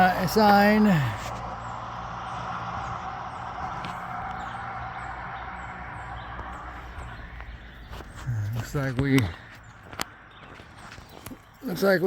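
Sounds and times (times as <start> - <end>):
road traffic tyre hiss: 0.0 - 10.3
faint bird chirps: 0.9 - 11.8.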